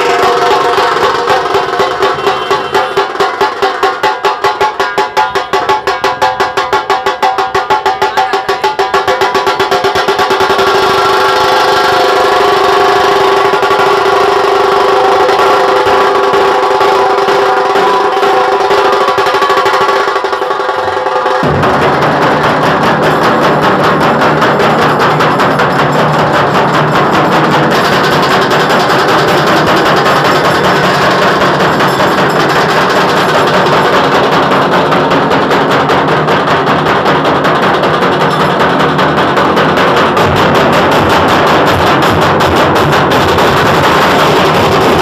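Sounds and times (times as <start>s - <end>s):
dhol drums beating: 0.0s - 45.0s
heavy deep drumming: 0.0s - 45.0s.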